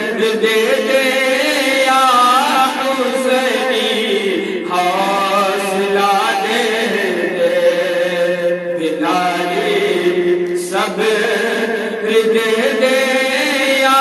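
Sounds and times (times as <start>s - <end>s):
man singing into microphone: 0.0s - 14.0s.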